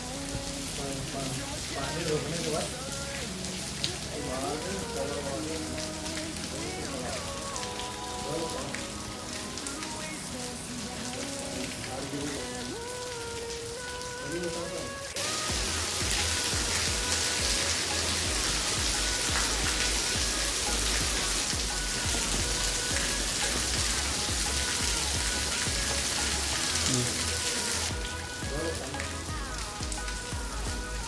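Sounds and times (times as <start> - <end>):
background music with bass line: 0.0 - 12.3, 15.2 - 31.0
heavy rain falling: 0.0 - 31.0.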